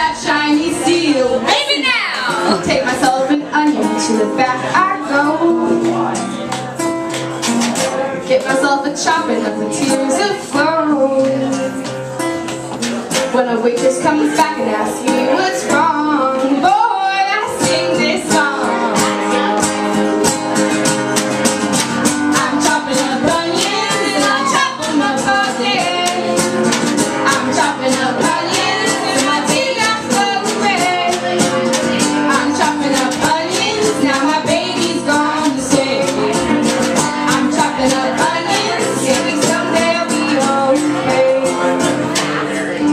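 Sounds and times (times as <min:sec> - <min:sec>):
women singing: 0:00.0 - 0:06.1, 0:08.2 - 0:11.9, 0:13.2 - 0:20.2, 0:22.0 - 0:42.9
acoustic guitar strummed: 0:00.0 - 0:42.9.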